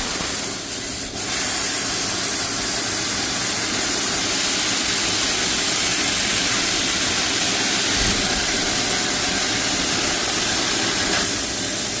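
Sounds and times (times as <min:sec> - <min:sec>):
laser cutting machine hissing: 0:00.0 - 0:12.0.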